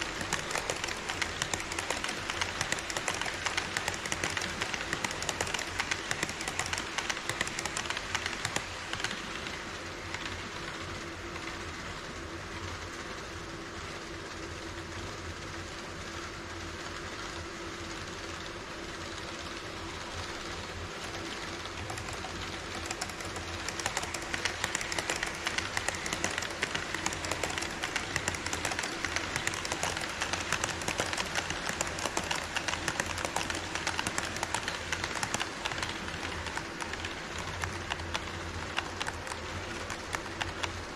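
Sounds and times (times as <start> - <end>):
model train wheels clicking on rails: 0.0 - 40.9.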